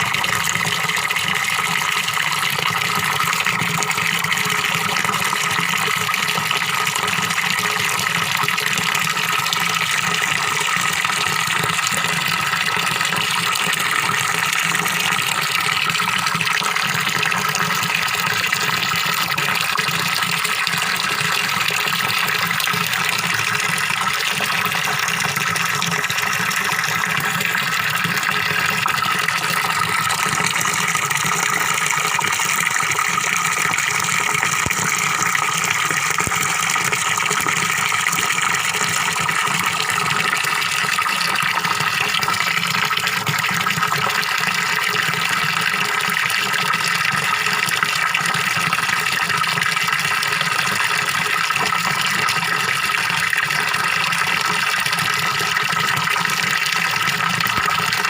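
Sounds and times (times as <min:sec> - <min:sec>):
small waterfall splashing into pond: 0:00.0 - 0:58.0.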